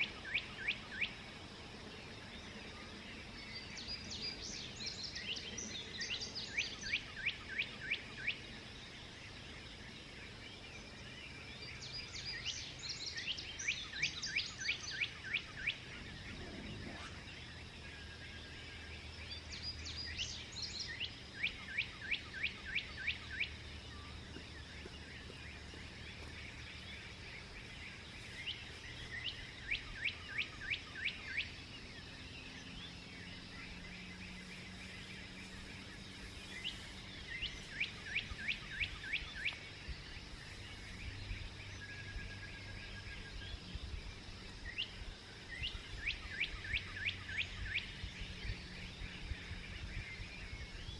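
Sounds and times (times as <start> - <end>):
songbird singing: 0.0 - 50.9.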